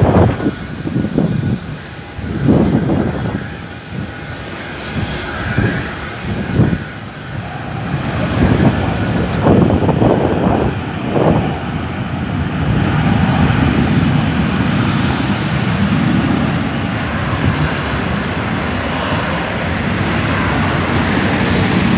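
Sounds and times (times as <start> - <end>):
jet airliner engines: 0.0 - 21.9.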